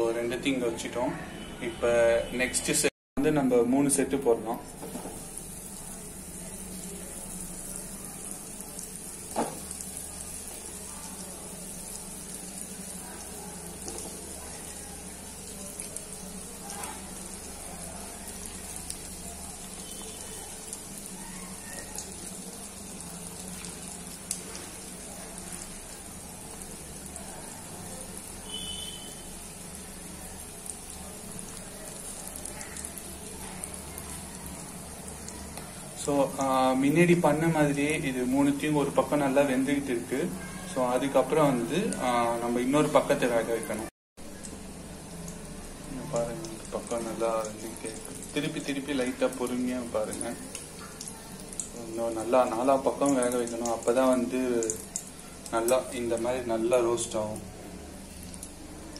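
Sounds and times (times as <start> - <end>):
oil sizzling and bubbling: 0.0 - 58.9.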